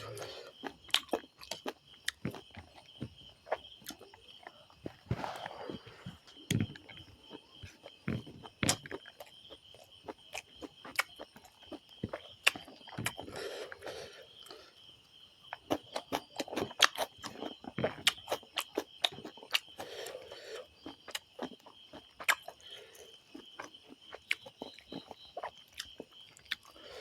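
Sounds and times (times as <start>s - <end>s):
mouth chewing food: 0.0s - 27.0s.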